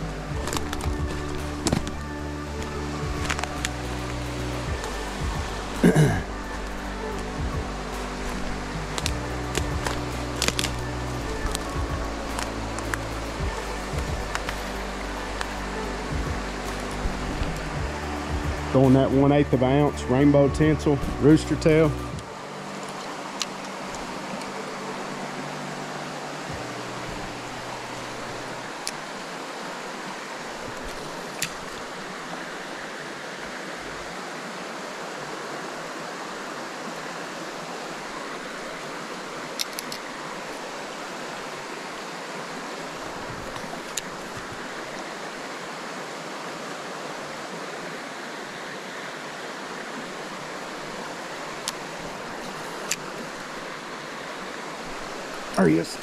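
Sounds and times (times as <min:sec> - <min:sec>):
creek water running: 0:00.0 - 0:56.0.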